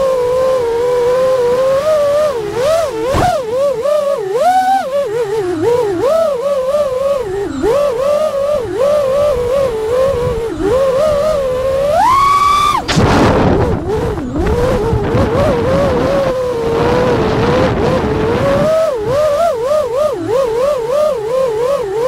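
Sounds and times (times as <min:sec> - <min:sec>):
drone motors whining: 0:00.0 - 0:22.0
rushing wind: 0:00.0 - 0:22.0.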